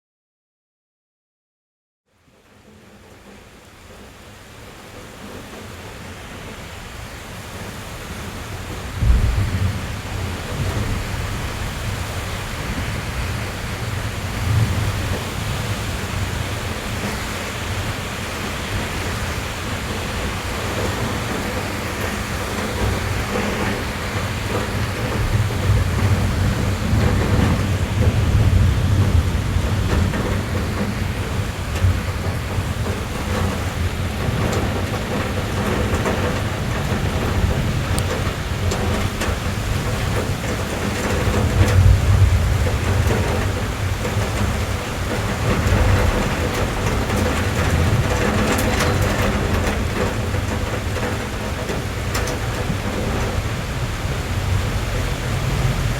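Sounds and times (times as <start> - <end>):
rain tapping on car roof: 2.2 - 55.9.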